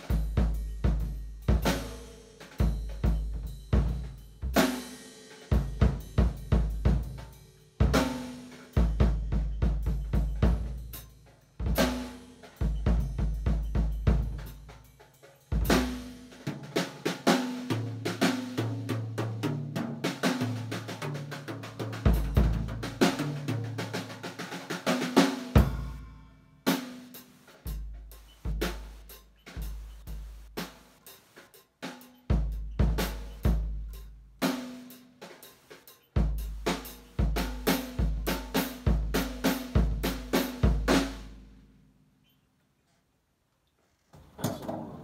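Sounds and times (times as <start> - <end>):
drum kit playing: 0.0 - 41.6.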